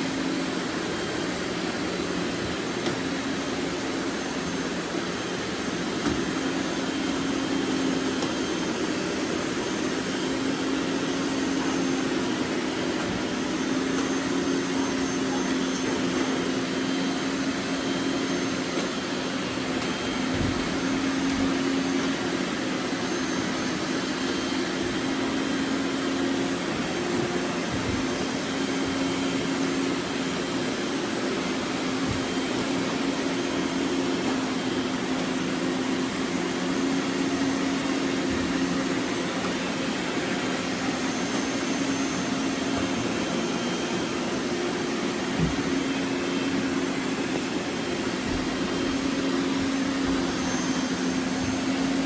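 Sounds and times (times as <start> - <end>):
robot vacuums whirring: 0.0 - 52.0.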